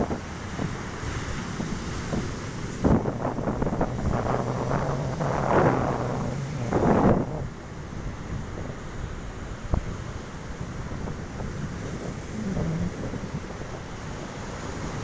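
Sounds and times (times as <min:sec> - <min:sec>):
sea: 0:00.0 - 0:15.0
wind buffeting microphone: 0:00.0 - 0:15.0
steady low hum: 0:02.4 - 0:14.8.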